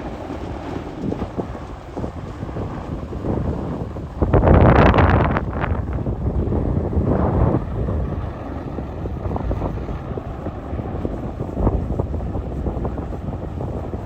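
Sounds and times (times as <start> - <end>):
sharp wind gusts: 0.0 - 14.0
wind buffeting microphone: 0.0 - 14.0.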